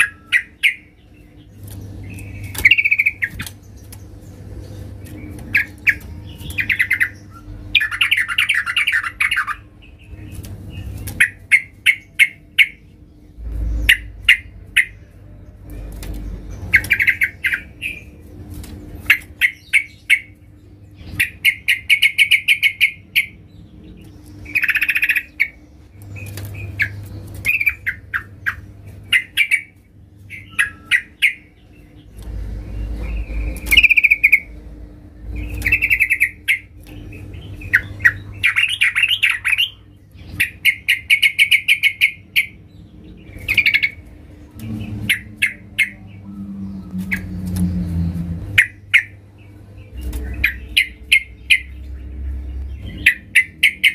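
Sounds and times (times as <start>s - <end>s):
bird sharp notes: 0.0s - 53.9s.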